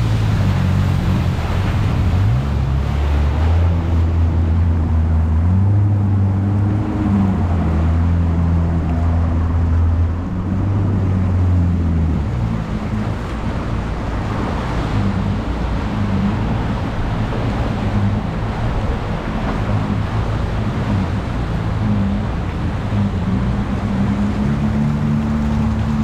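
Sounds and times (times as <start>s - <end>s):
motorboat engine humming: 0.0s - 26.0s
wind and water rushing: 0.0s - 26.0s.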